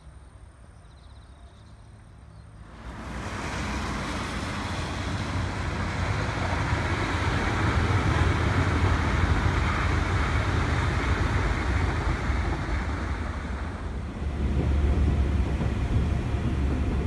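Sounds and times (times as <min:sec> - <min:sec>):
electric train wheels rumbling on rail: 0:02.6 - 0:17.0.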